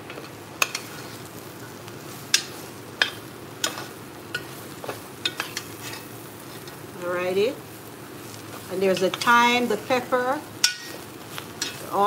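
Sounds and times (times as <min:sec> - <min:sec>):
vegetables sizzling: 0:00.0 - 0:12.0.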